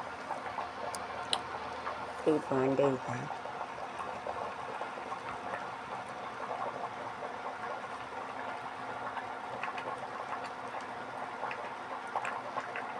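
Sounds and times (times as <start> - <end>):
pot boiling with bubbling hiss: 0.0 - 12.9.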